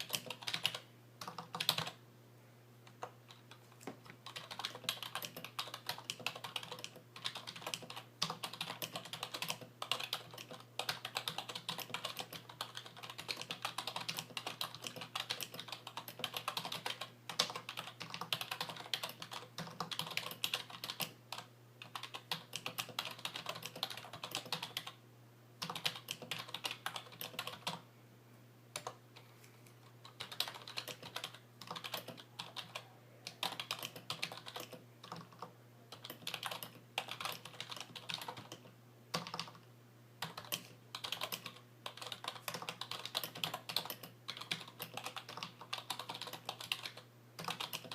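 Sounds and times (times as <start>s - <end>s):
fast typing on keyboard: 0.0s - 2.0s, 3.0s - 25.0s, 25.6s - 27.8s, 30.0s - 47.9s.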